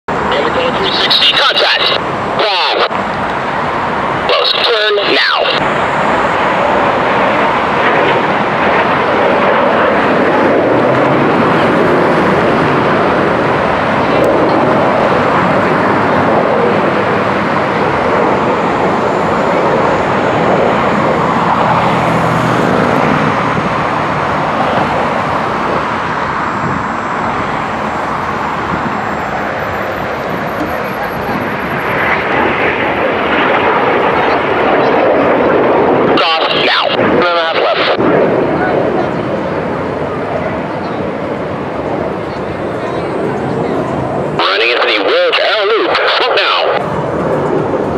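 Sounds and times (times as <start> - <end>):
jets flying past: 0.1 - 47.9.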